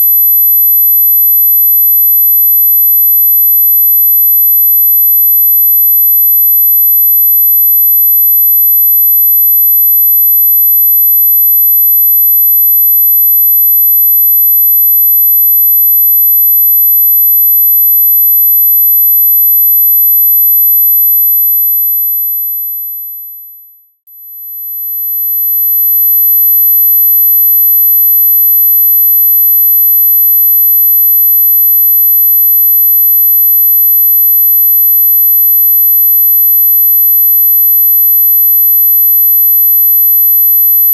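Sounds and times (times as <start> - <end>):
high pure sine tone: 0.0 - 40.9.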